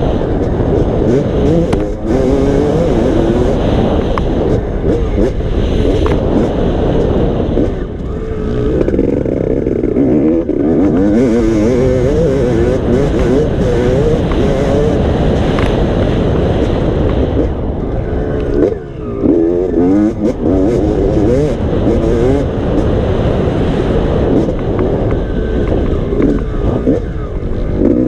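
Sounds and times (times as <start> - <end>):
dirt bike engine revving: 0.0 - 28.0
heavy low rumble: 0.0 - 28.0.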